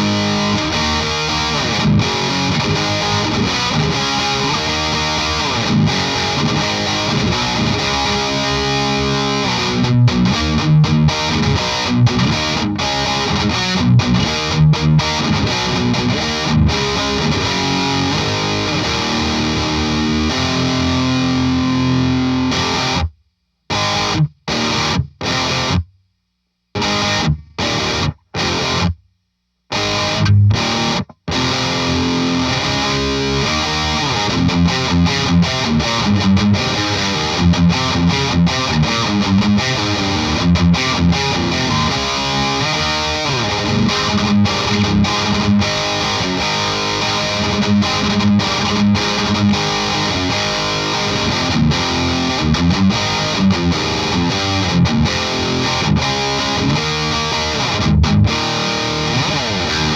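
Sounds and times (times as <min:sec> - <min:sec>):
distorted electric guitar riff: 0:00.0 - 0:25.9, 0:26.7 - 0:29.0, 0:29.6 - 0:59.9.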